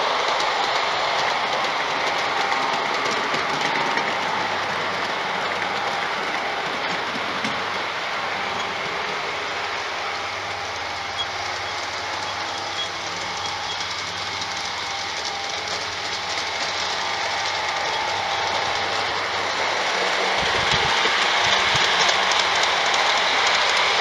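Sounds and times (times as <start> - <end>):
model train motors whirring: 0.0 - 24.0
wheels rolling over track: 0.0 - 24.0.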